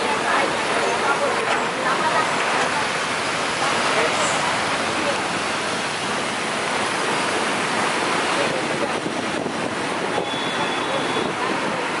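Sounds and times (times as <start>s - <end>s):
vehicle driving through floodwater: 0.0s - 12.0s.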